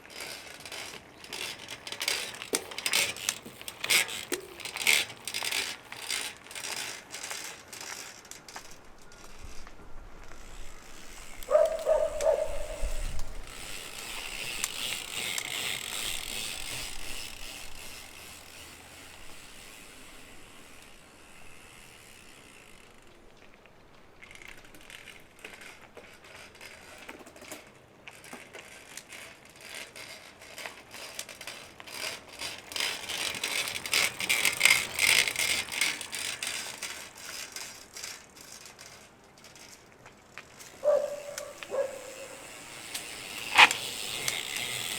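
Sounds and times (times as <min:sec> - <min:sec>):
bicycle freehub ratcheting clicks: 0:00.0 - 0:23.4, 0:24.2 - 0:44.9.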